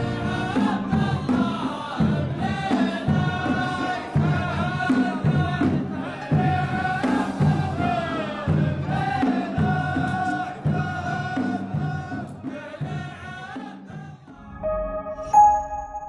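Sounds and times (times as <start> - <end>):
chorus chanting: 0.0 - 16.0.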